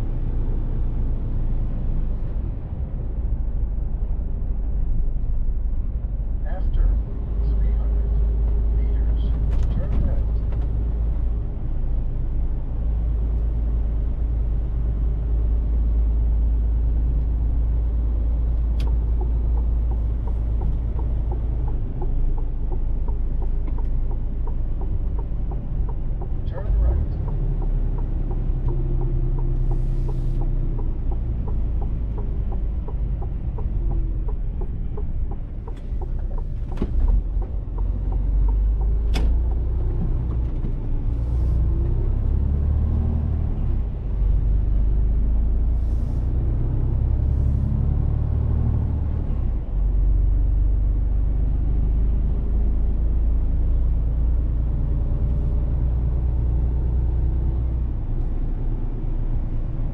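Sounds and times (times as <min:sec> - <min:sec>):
truck diesel engine rumbling: 0:00.0 - 0:59.9.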